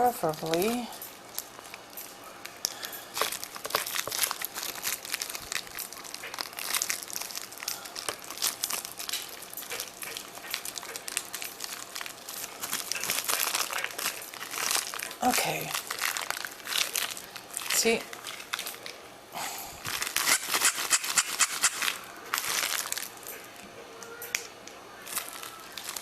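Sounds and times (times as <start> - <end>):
papery bellows crinkling: 0.0 - 19.0, 19.8 - 26.0.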